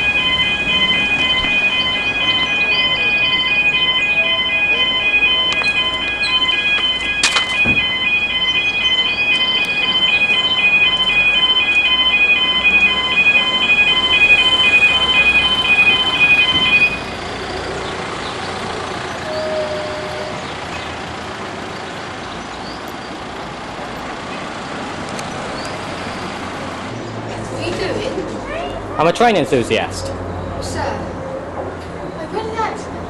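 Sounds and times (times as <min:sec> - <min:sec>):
crossing alarm two-tone warble: 0:00.0 - 0:27.0
road traffic noise: 0:00.0 - 0:33.0.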